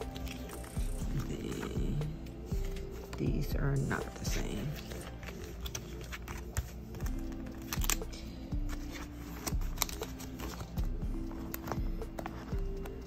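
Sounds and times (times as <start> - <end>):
plastic binder pages crinkling: 0.0 - 13.0.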